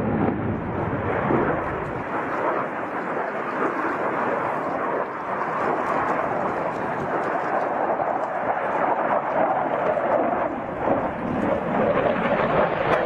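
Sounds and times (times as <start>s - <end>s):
jet engine roaring overhead: 0.0s - 13.0s.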